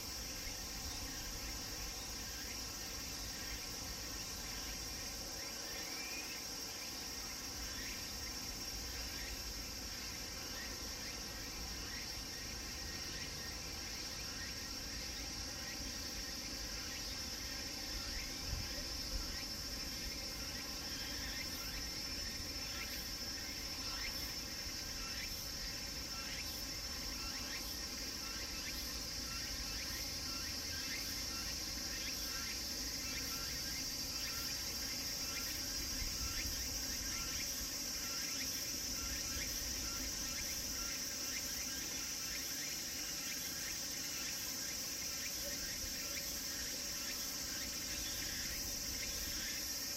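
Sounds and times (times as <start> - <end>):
cicadas singing: 0.0 - 49.9
faint pulsing insect call: 0.0 - 49.9.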